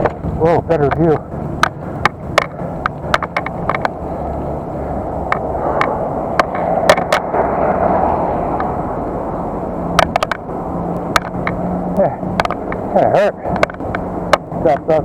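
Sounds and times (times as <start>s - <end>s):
bike clicks and knocks over bumps: 0.0s - 8.8s, 9.9s - 11.6s, 12.2s - 15.0s
wind rushing: 0.0s - 12.7s
bicycle tyre rumble: 0.0s - 15.0s.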